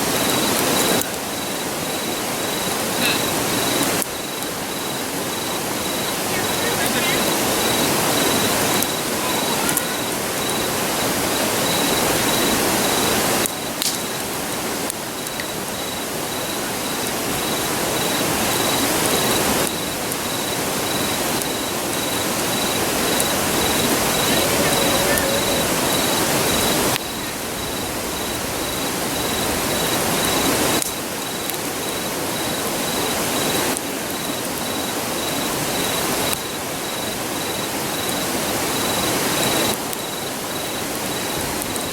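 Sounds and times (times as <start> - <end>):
campfire popping: 0.0 - 41.9
crickets trilling: 0.0 - 41.9
river rushing: 0.0 - 41.9.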